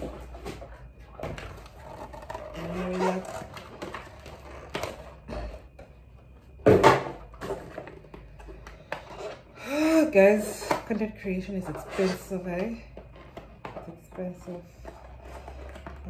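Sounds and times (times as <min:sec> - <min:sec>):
rummaging through packaging: 0:00.0 - 0:16.0.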